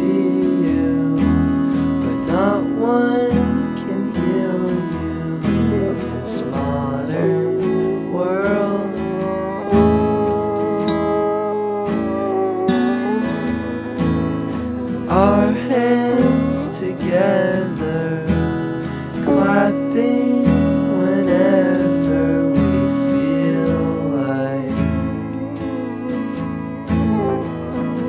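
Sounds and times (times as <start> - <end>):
sliding guitar melody: 0.0 - 28.0
strummed acoustic guitar: 0.0 - 28.0.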